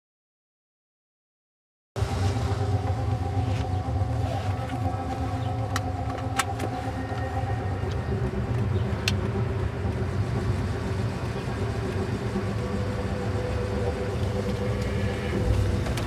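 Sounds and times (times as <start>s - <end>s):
car engine humming: 2.0s - 16.0s.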